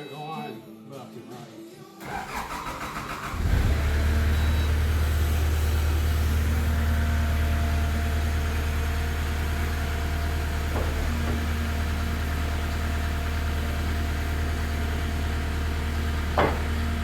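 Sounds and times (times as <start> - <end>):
diesel engine idling: 2.0 - 17.0.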